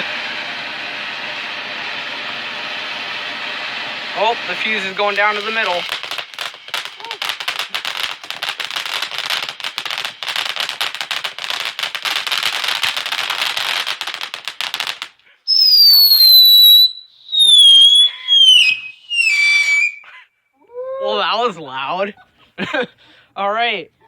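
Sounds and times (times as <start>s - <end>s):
firework crackling: 0.0s - 20.2s
falling firework whistles: 0.0s - 20.3s.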